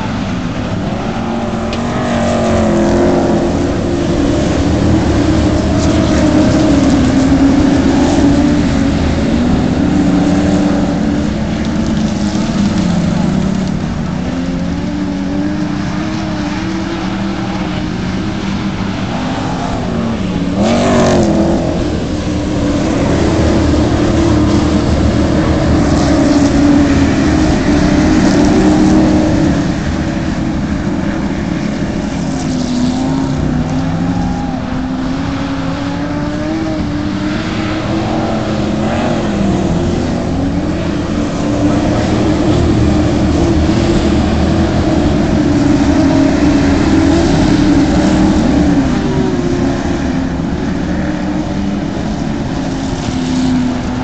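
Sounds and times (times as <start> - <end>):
car passing close: 0.0 - 54.0
racing car engines: 0.0 - 54.0.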